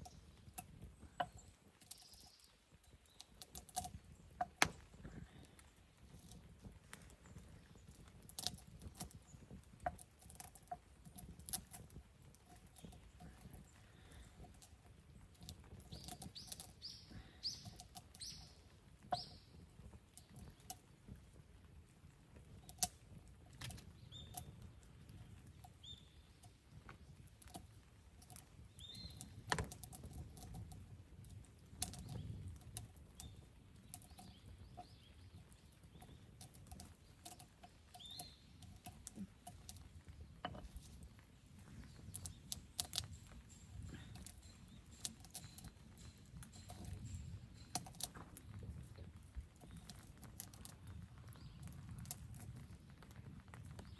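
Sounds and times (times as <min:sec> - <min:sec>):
campfire crackling and popping: 0:00.0 - 0:53.9
low rumble of flames: 0:02.6 - 0:53.9.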